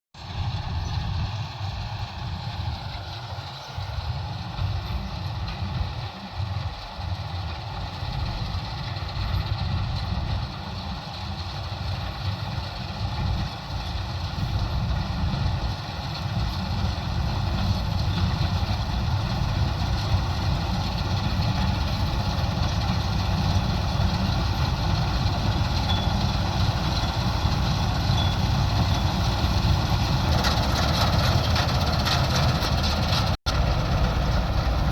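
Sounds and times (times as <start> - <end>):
combine harvester engine rumble: 0.2 - 34.9
machinery whine: 0.2 - 34.9.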